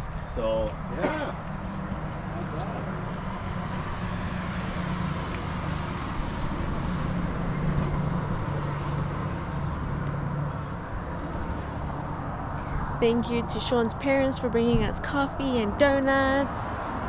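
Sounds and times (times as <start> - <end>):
road and tyre noise: 0.0 - 17.0
vehicle engine hum: 0.0 - 17.0.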